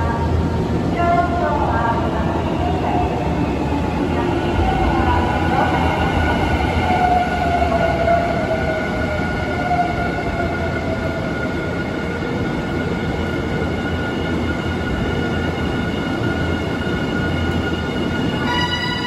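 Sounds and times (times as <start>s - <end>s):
electric train whine: 2.3s - 19.0s.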